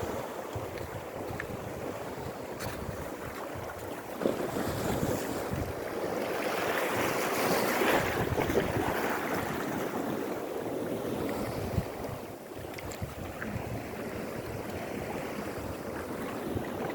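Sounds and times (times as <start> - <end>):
sea waves surging onto rocks: 0.0 - 16.9
wind buffeting microphone: 0.0 - 16.9.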